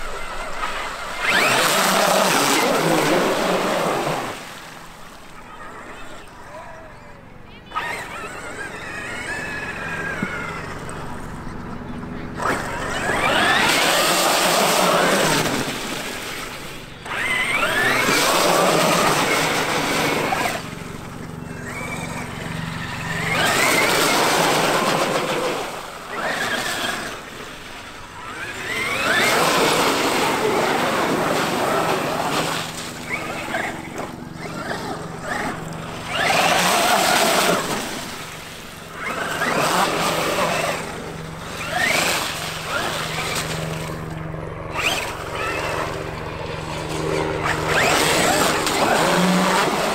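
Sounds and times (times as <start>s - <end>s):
electric motor whining: 0.0s - 49.9s
tyres churning through mud: 0.0s - 49.9s.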